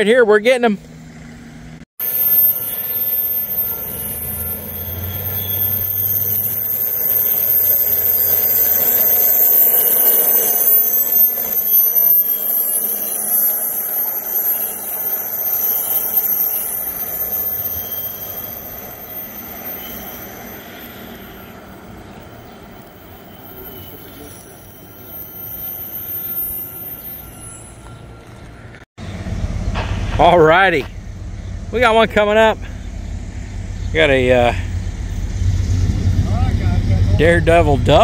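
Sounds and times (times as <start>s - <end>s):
train rumble: 1.0s - 38.0s
train wheels squealing: 2.0s - 38.0s.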